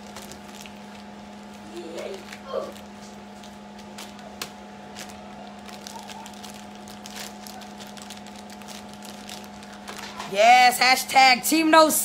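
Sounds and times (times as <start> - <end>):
plastic bags crinkling: 0.0 - 10.8.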